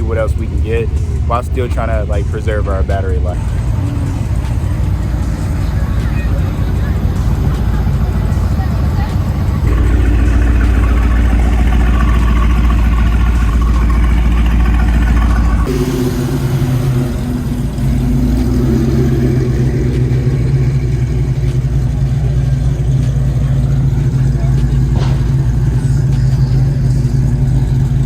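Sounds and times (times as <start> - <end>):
car engine idling and revving: 0.0 - 28.0
low steady engine note: 0.0 - 28.0.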